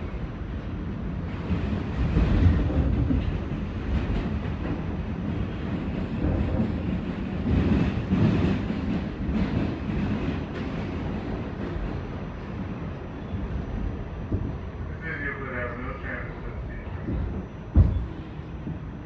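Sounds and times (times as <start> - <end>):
subway wheels rumbling on track: 0.0 - 19.0.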